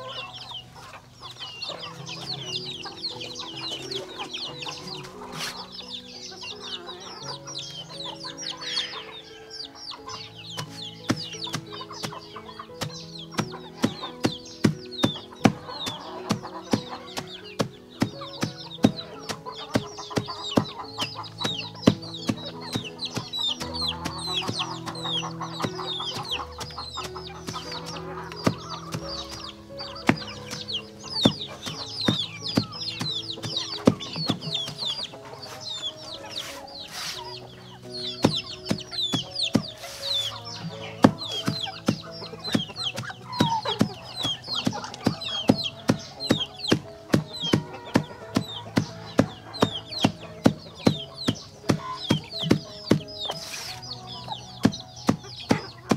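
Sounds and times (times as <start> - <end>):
background music with held notes: 0.0 - 55.9
chicks peeping: 0.0 - 55.9.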